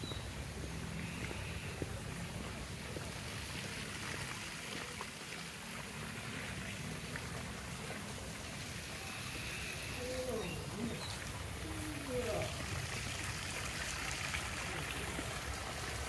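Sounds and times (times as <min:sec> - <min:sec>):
running trickling water: 0:00.0 - 0:16.0.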